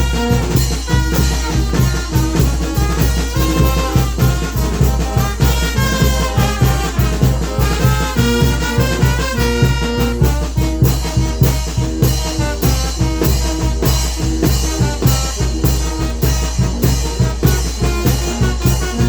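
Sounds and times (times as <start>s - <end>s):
brass band with drums playing: 0.0s - 19.0s.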